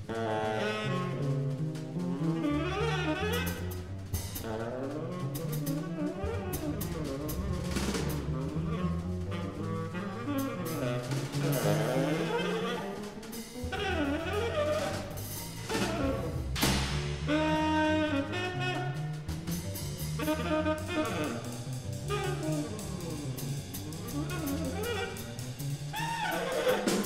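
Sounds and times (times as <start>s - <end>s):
big band jazz: 0.0s - 27.0s
double bass: 0.0s - 27.0s
drum kit with cymbals: 0.0s - 27.0s
saxophones and brass: 0.0s - 27.0s.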